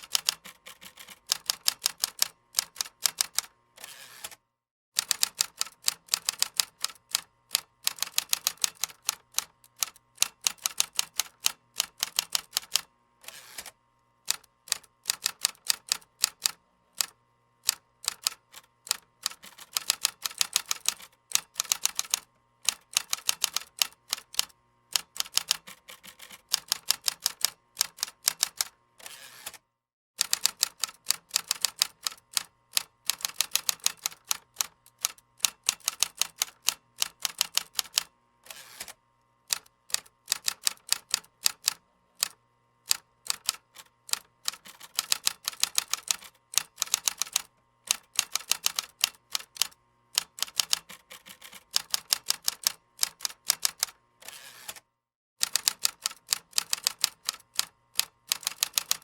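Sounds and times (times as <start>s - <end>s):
computer keyboard typing: 0.0s - 3.5s, 5.0s - 12.9s, 14.3s - 28.7s, 30.2s - 38.1s, 39.5s - 54.0s, 55.4s - 59.0s.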